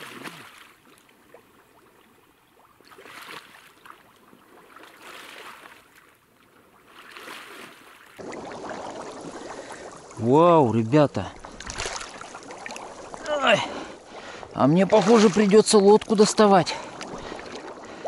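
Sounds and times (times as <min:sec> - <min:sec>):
footsteps sloshing through water: 0:00.0 - 0:10.2, 0:11.3 - 0:18.0
rushing water: 0:00.0 - 0:18.0.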